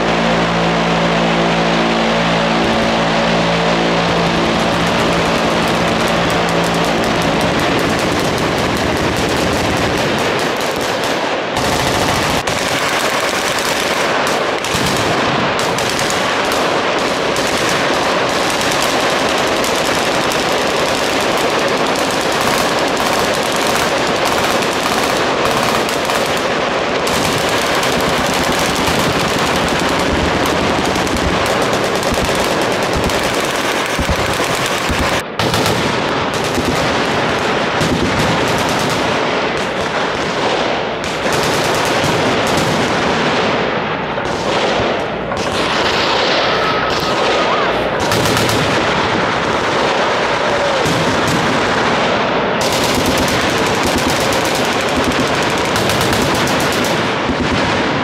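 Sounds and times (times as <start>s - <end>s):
machine guns firing full-auto: 0.0s - 58.0s.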